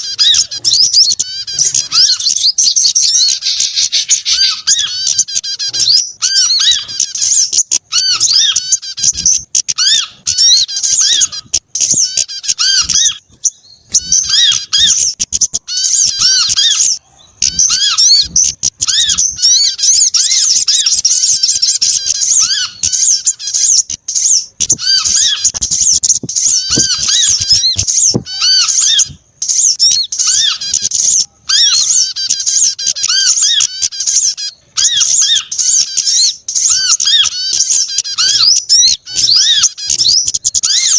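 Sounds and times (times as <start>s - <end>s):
small songbirds chattering: 0.0s - 40.9s.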